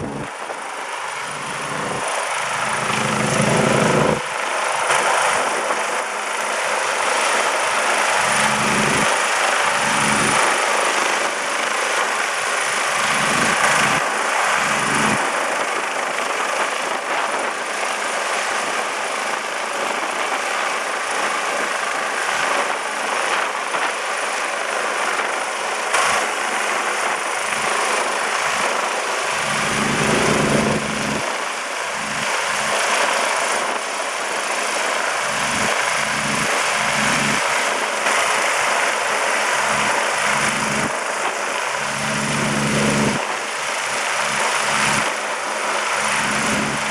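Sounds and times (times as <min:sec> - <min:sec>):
helicopter rotor and turbine: 0:00.0 - 0:46.9.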